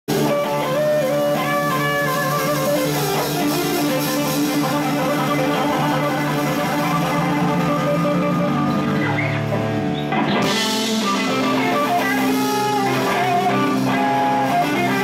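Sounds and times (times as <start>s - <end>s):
live band with electric guitars: 0.1s - 15.0s.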